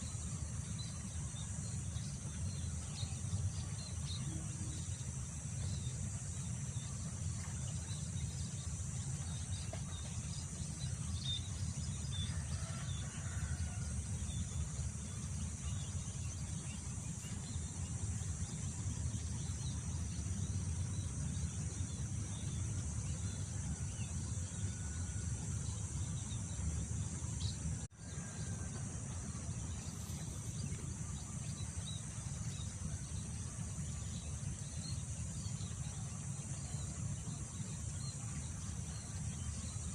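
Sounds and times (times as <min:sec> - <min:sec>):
high insect chorus: 0:00.0 - 0:39.9.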